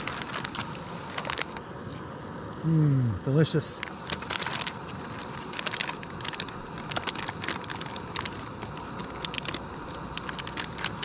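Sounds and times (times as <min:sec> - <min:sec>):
camping stove hissing: 0:00.0 - 0:11.0.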